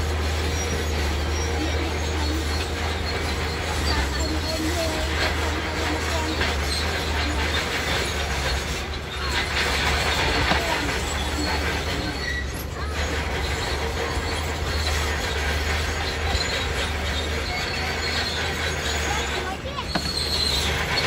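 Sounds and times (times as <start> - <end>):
bulldozer diesel engine humming: 0.0 - 21.0
steel tracks squealing and clanking: 0.0 - 21.0.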